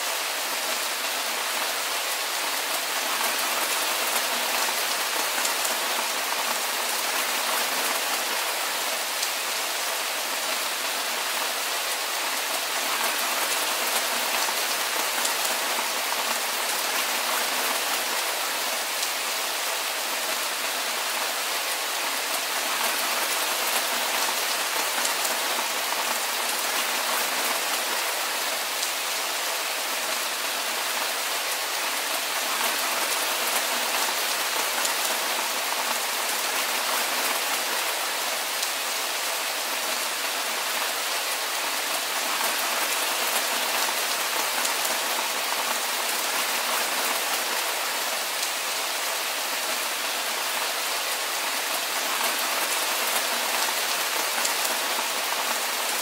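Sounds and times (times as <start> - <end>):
rain on a roof: 0.0 - 56.0.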